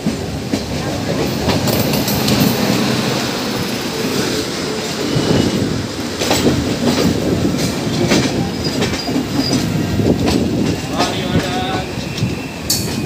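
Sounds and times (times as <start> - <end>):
wheels clicking over rail joints: 0.0 - 3.7, 5.7 - 13.0
train wheels rumbling: 0.0 - 13.0.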